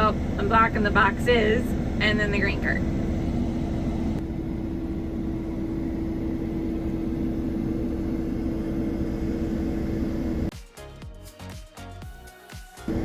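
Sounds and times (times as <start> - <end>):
tractor engine running: 0.0 - 10.5.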